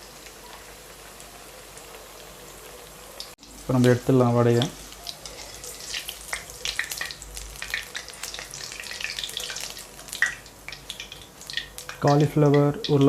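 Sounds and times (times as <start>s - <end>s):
deep-frying sizzle with pops: 0.0s - 13.0s.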